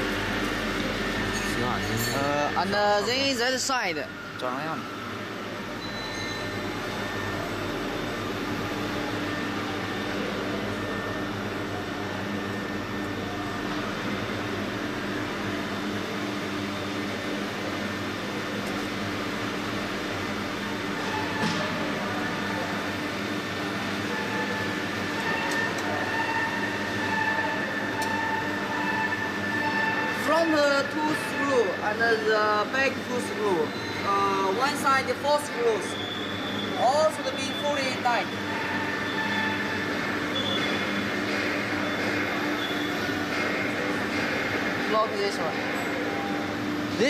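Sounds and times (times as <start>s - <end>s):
machinery humming: 0.0s - 47.0s.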